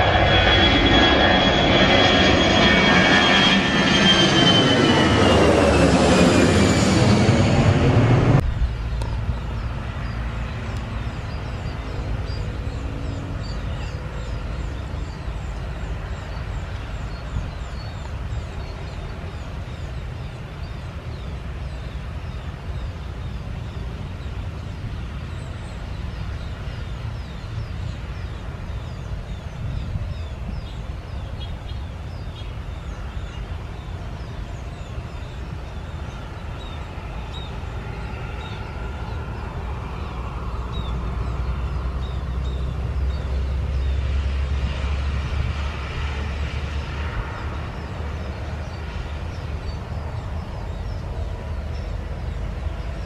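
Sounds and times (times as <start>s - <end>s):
jet airliner passing overhead: 0.0s - 53.0s
steady low rumble: 0.0s - 53.0s.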